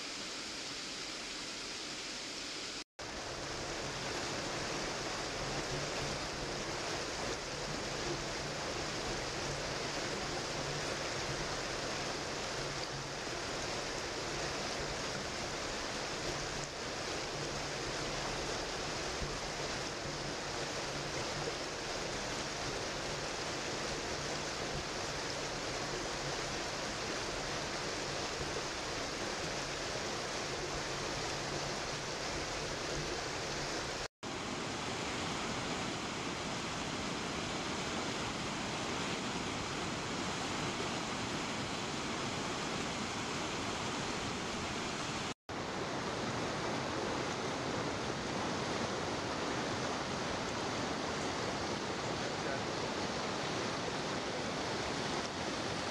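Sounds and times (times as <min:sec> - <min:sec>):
river rapids spilling over rocks: 0:00.1 - 0:55.9.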